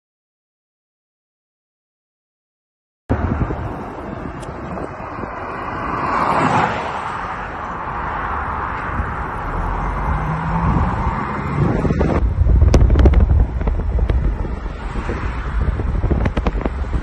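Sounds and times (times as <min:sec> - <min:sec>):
car road and wind noise: 0:03.1 - 0:17.0.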